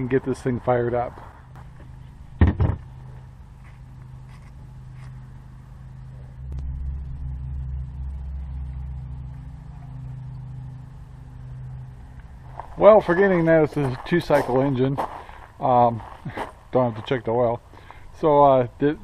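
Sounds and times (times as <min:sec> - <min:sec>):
deep rumble: 0:00.0 - 0:17.2
vehicle engine hum: 0:00.0 - 0:19.0.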